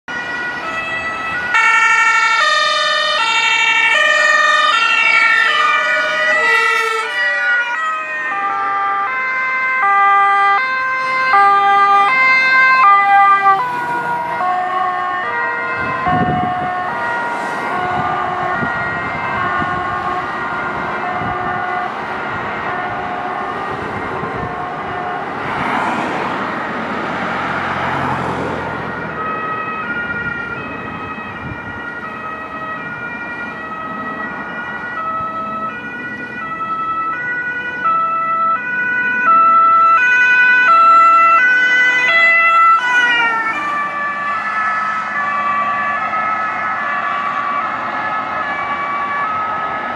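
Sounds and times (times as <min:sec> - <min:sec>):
two-tone emergency sirens: 0:00.0 - 0:49.9.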